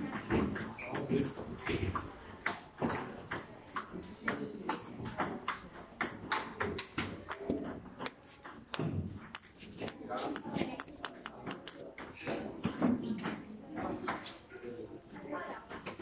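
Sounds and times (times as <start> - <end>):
table tennis balls clicking: 0.0 - 14.4
faint background chatter: 0.0 - 16.0.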